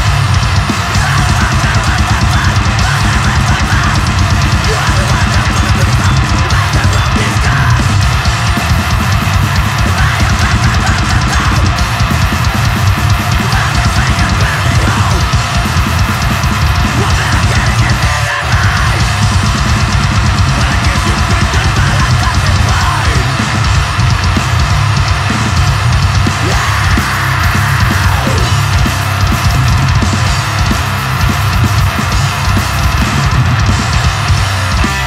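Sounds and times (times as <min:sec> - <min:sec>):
fast dense drumming: 0:00.0 - 0:35.0
grindcore band playing: 0:00.0 - 0:35.0.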